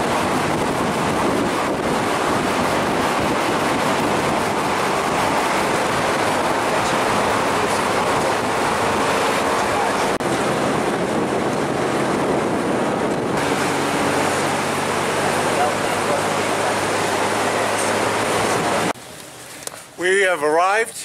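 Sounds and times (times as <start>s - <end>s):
car road and wind noise: 0.0s - 19.8s.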